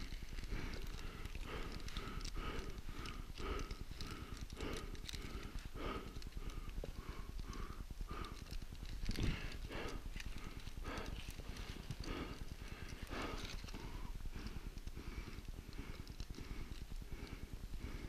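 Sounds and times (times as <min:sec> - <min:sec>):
man breathing heavily: 0:00.0 - 0:18.0.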